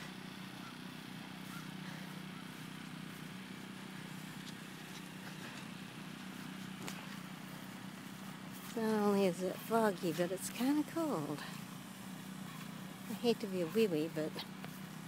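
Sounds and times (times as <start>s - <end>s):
faint outdoor background noise: 0.0s - 15.0s
steady low hum: 0.0s - 15.0s.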